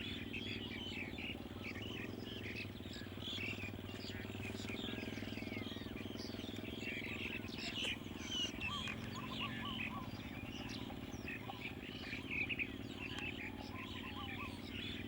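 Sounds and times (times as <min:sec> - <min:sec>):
bird chirps: 0:00.0 - 0:15.0
steady low hum: 0:00.0 - 0:15.0.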